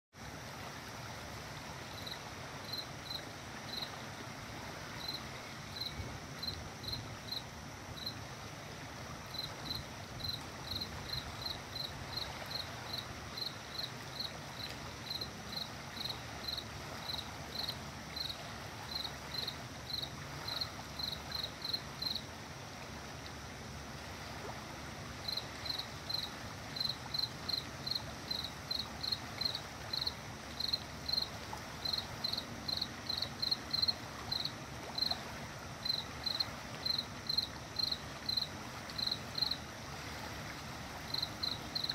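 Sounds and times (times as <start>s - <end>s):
cricket chirping: 1.8s - 22.4s, 25.2s - 39.8s, 40.9s - 41.9s.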